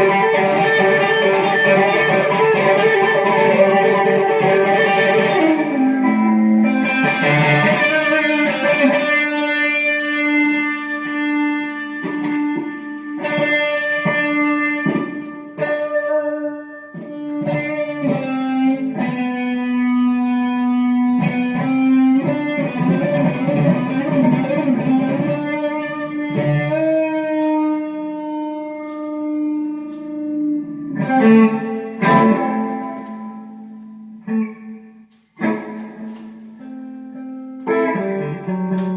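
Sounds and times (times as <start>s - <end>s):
guitar playing held notes: 0.0s - 38.9s.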